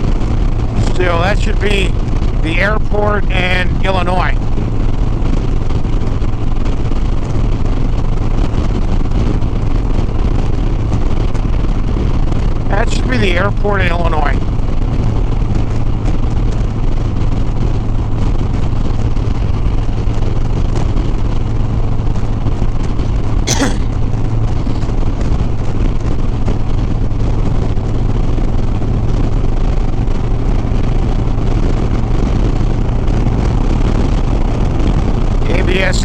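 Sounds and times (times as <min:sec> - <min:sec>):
wind and road noise: 0:00.0 - 0:36.0.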